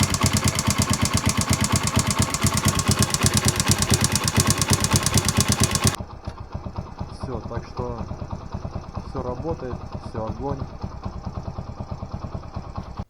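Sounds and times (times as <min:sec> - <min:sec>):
moped engine idling with ticking: 0:00.0 - 0:13.0.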